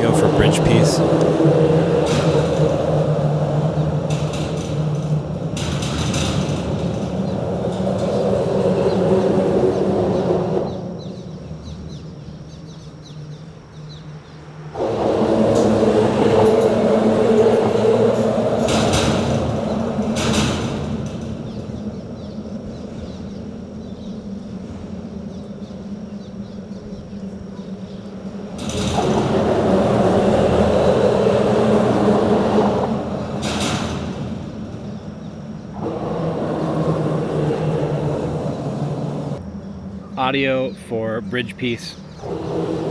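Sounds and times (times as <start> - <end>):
vehicles passing on bridge: 0.0 - 11.6, 14.2 - 25.2, 27.7 - 42.9.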